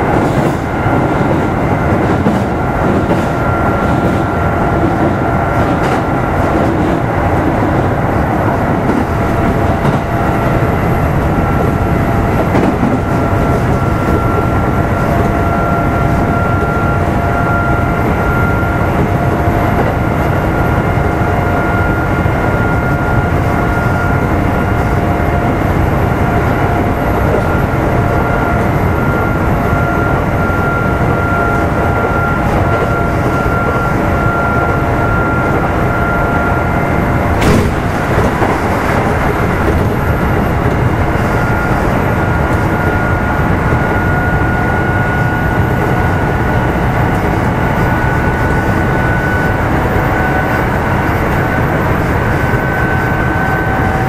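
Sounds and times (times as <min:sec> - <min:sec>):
electric train motor whine: 0:00.0 - 0:54.0
wheel and track rumble: 0:00.0 - 0:54.0.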